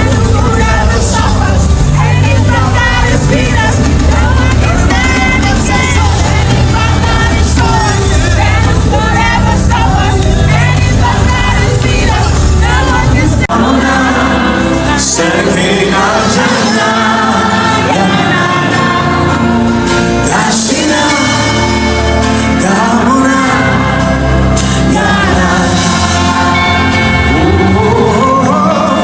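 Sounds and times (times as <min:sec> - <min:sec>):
band with heavy bass: 0:00.0 - 0:29.0
gospel singers: 0:00.0 - 0:29.0.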